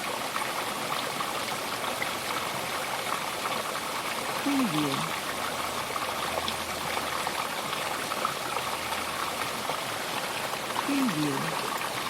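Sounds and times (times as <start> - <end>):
brook flowing: 0.0 - 12.0.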